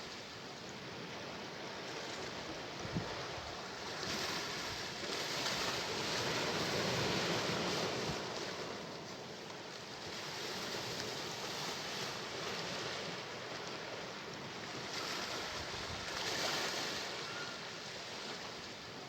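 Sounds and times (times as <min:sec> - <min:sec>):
sea waves surging: 0:00.0 - 0:19.0.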